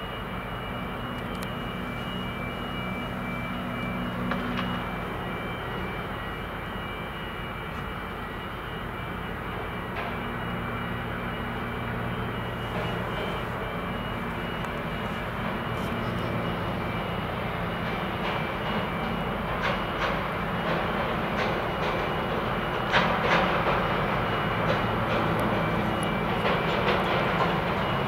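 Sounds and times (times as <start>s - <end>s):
low mechanical drone: 0.0s - 28.0s.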